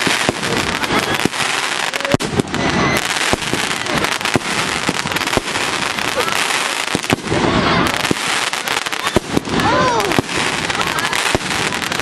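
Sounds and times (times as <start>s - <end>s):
fireworks crackling hiss: 0.0s - 12.0s
fireworks cracks and bangs: 0.0s - 12.0s.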